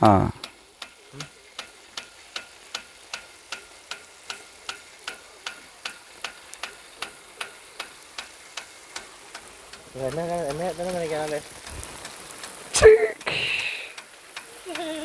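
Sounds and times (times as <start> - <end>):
sprinkler arm clacking: 0.0 - 15.0
hiss of water spray: 0.4 - 15.0.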